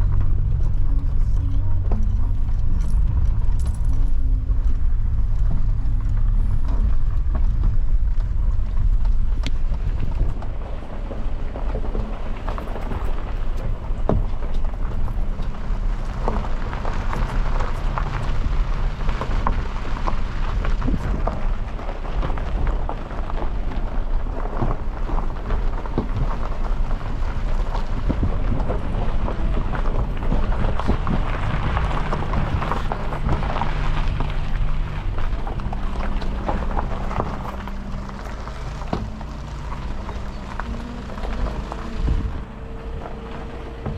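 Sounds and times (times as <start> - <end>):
car engine drone: 0.0 - 43.9
tyres on gravel: 0.0 - 43.9.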